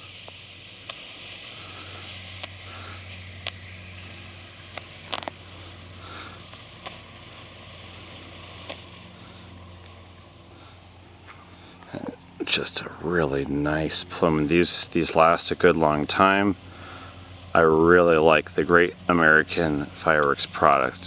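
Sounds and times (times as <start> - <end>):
smoke canister hissing: 0.0 - 21.0.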